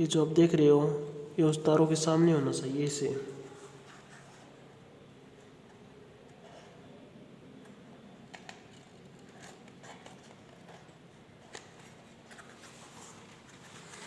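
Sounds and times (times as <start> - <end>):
soft handling rustles: 1.2 - 14.0.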